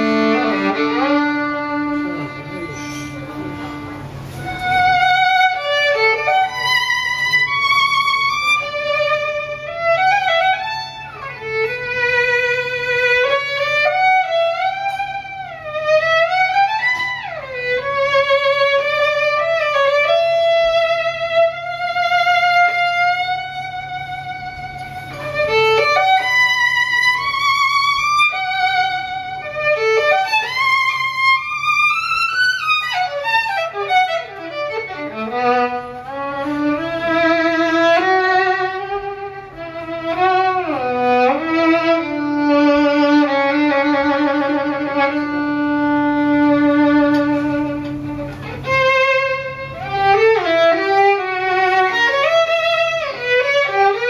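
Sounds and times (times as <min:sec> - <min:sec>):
jazz violin melody: 0:00.0 - 0:54.0.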